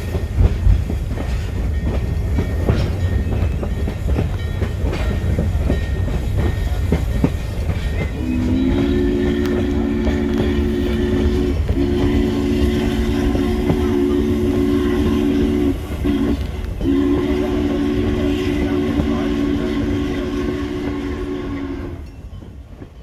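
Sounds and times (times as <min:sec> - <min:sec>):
moving train rumble: 0:00.0 - 0:23.0
steam locomotive chime whistle: 0:01.8 - 0:23.0.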